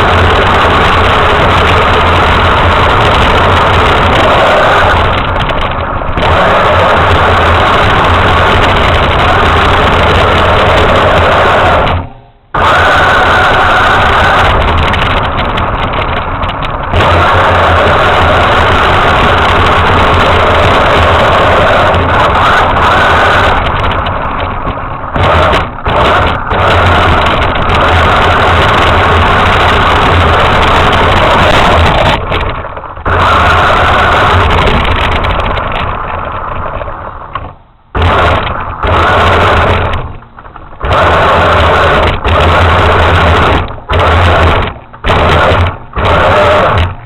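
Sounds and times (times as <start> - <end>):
toy truck motor revving: 0.0 - 37.3, 38.0 - 40.2, 40.8 - 47.0.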